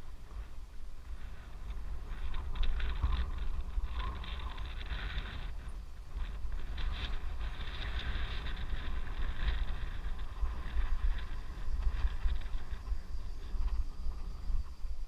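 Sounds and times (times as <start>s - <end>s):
rattling road noise: 0.0s - 14.9s
wind buffeting microphone: 0.0s - 15.0s.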